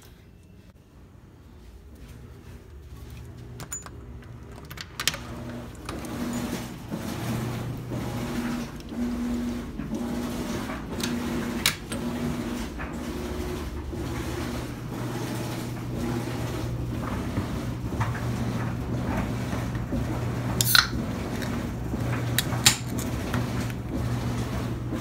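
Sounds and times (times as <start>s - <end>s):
laundry machine humming: 0.0s - 25.0s.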